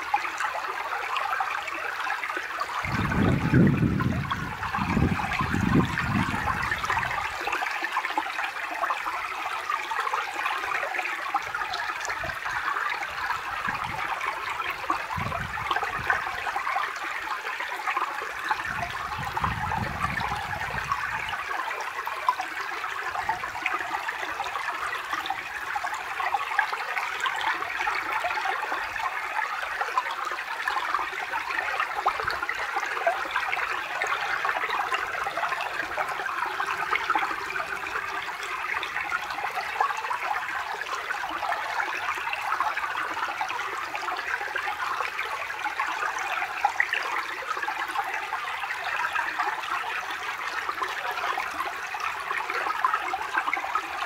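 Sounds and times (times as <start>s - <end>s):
stream babbling over stones: 0.0s - 54.0s.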